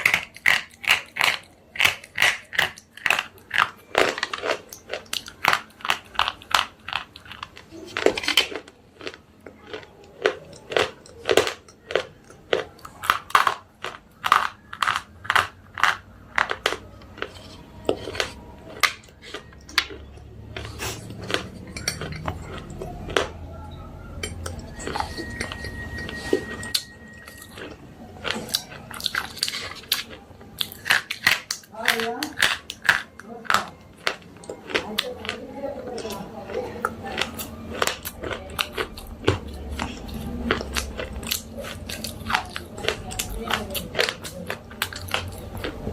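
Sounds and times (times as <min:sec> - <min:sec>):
brittle crunches of chewing: 0:00.0 - 0:45.9.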